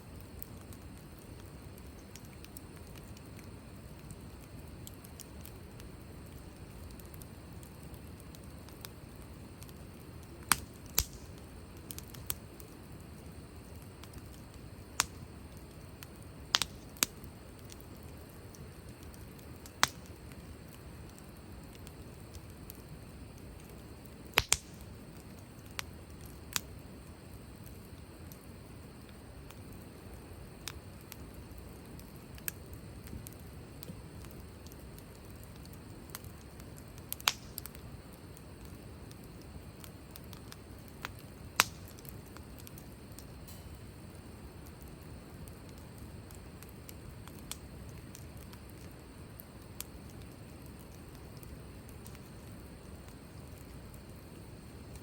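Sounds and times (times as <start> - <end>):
burning wood popping and crackling: 0.0 - 55.0
campfire flame noise: 0.0 - 55.0.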